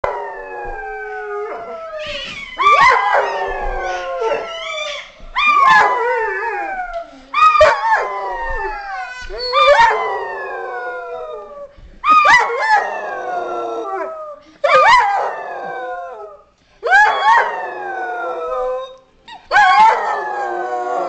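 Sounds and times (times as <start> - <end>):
dog howling: 0.0 - 21.0.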